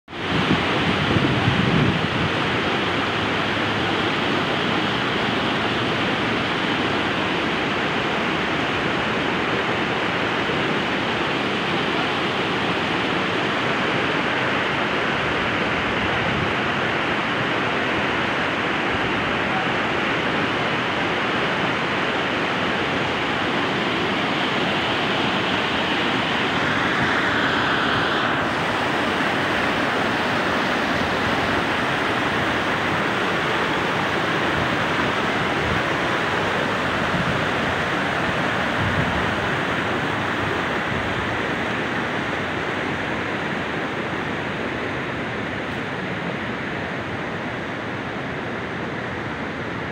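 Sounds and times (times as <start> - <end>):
stream rushing over rocks: 0.1 - 49.9.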